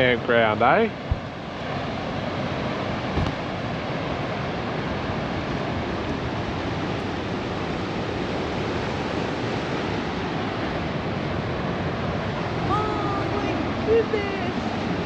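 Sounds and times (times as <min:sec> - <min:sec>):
ocean surf rushing: 0:00.0 - 0:15.0
wind: 0:00.0 - 0:15.0
wind buffeting microphone: 0:00.0 - 0:15.0.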